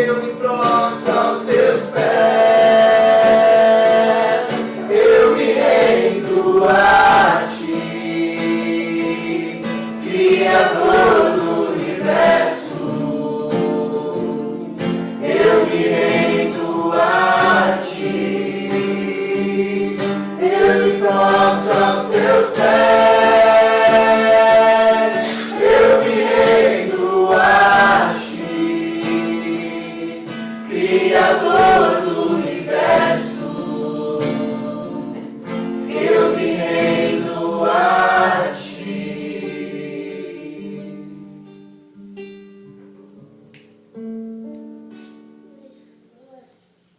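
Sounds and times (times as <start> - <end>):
group singing worship song: 0.0 - 41.5
acoustic guitar: 0.0 - 46.9.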